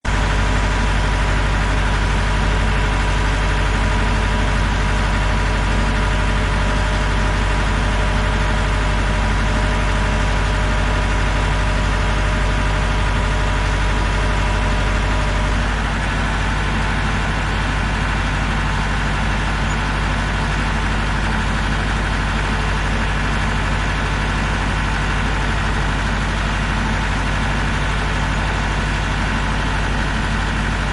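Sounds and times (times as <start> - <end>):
engine idling: 0.0 - 30.9.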